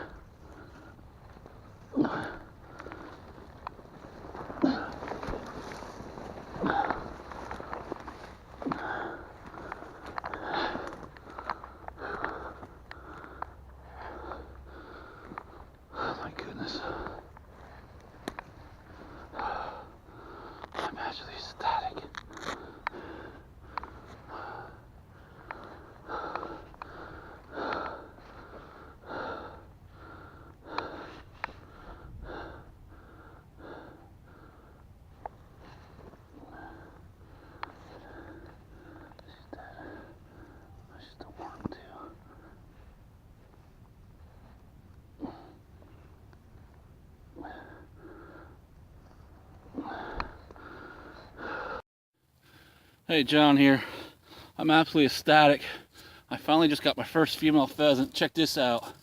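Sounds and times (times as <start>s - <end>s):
man breathing hard: 0.0s - 43.6s, 44.2s - 54.6s, 55.4s - 56.3s.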